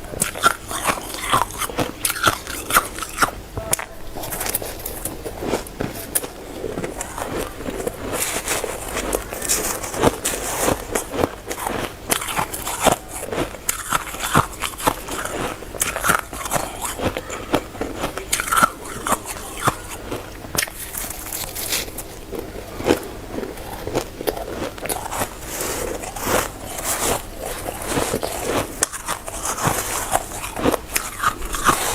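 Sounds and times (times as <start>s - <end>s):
shaved ice being chewed: 0.0s - 31.9s.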